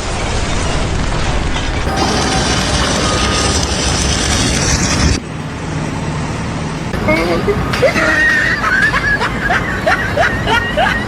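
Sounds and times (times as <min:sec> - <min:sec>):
rumbling heavy machinery: 0:00.0 - 0:10.9
low engine hum: 0:01.8 - 0:11.0.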